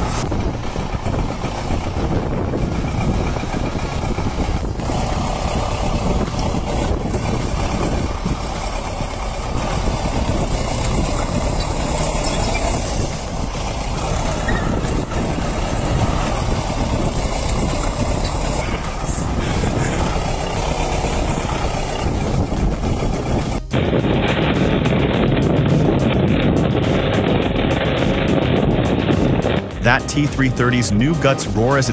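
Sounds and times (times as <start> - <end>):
bulldozer diesel engine rumbling: 0.0 - 31.9.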